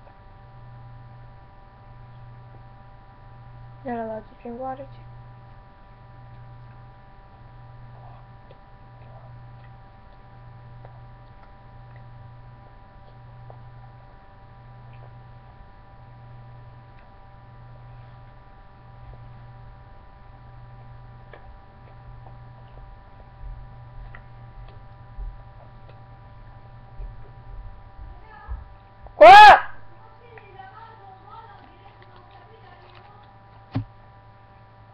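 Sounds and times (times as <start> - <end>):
pulsing electrical hum: 0.0 - 34.9.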